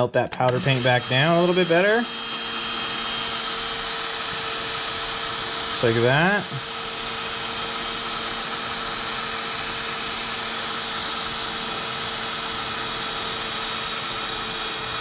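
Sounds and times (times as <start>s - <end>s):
heat gun fan whine: 0.0s - 15.0s.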